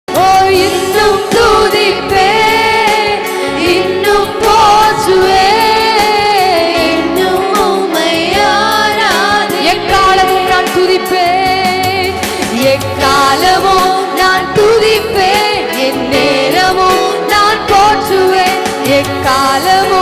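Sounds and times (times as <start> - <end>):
instrumental backing: 0.1 - 20.0
person singing worship song: 0.1 - 20.0.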